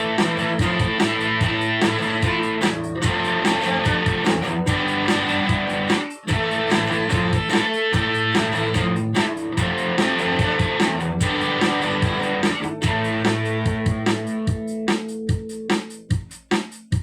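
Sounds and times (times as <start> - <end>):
bass notes: 0.0 - 14.4
strummed electric guitar: 0.0 - 16.0
steady drum beat: 0.0 - 17.0.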